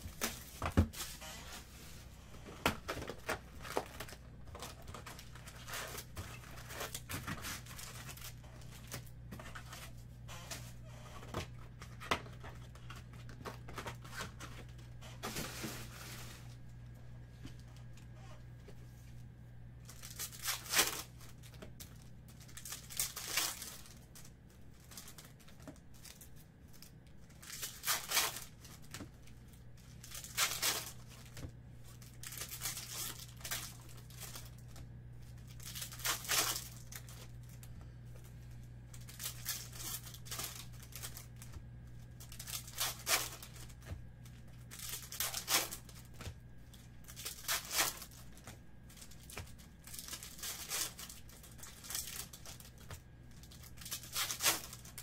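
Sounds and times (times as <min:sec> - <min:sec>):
wrappers crinkling: 0:00.0 - 0:17.0, 0:19.8 - 0:55.0
foil packs tearing open: 0:02.4 - 0:16.4, 0:19.9 - 0:34.8, 0:35.4 - 0:37.6, 0:38.9 - 0:41.6, 0:42.2 - 0:46.3, 0:47.0 - 0:55.0.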